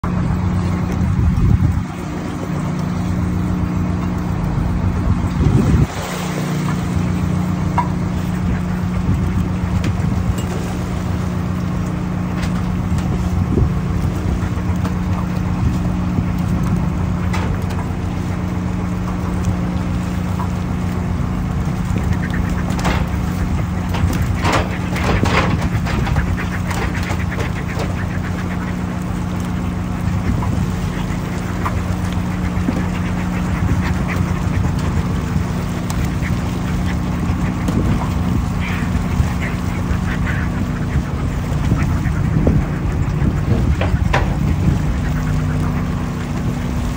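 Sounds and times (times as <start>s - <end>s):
boat engine humming: 0.0s - 46.9s
seabird calls: 0.0s - 46.9s
wind rumble on microphone: 0.0s - 46.9s.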